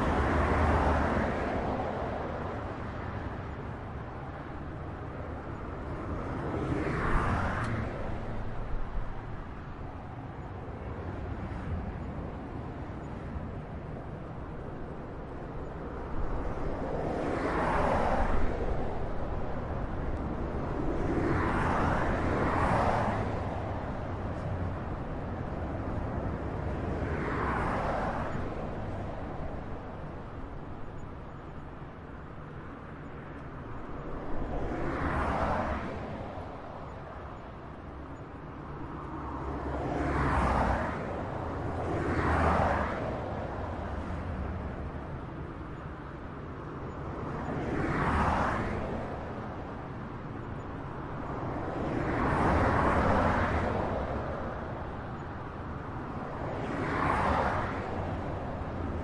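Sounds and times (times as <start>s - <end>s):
vehicles passing on highway: 0.0s - 59.0s.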